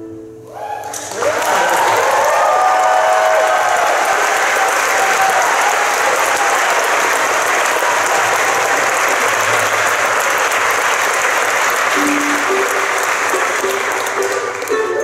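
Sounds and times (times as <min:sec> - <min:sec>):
audience applauding: 0:00.8 - 0:15.0.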